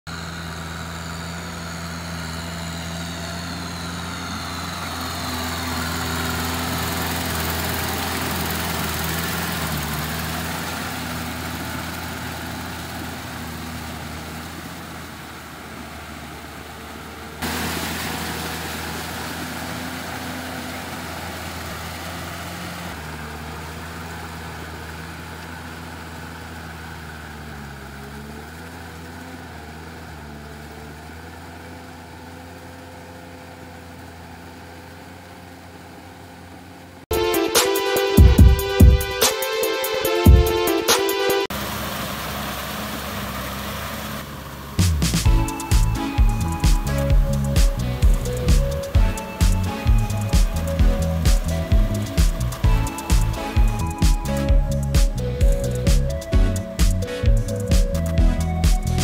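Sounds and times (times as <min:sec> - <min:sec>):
tractor diesel engine running: 0:00.0 - 0:59.0
tiller churning through mud: 0:00.1 - 0:59.0.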